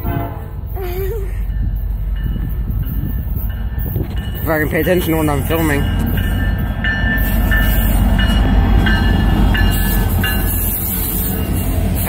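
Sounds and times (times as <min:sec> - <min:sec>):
diesel locomotive rumbling past: 0:00.0 - 0:12.0.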